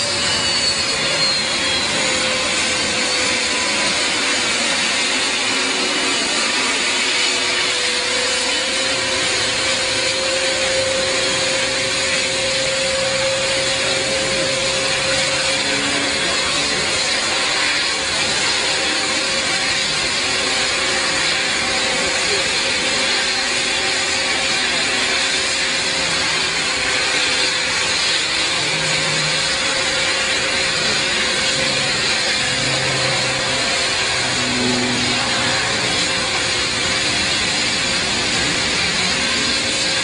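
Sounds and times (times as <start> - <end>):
jet engines running: 0.0 - 40.0.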